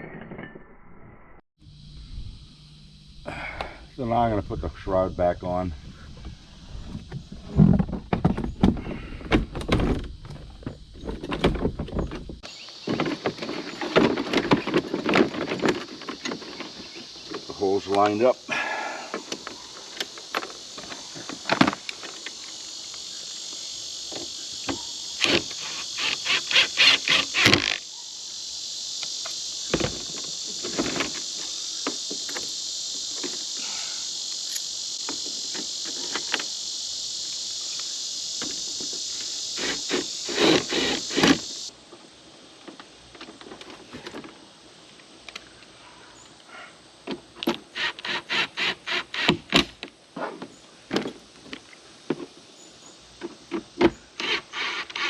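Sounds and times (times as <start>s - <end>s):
high insect buzz: 1.6s - 55.0s.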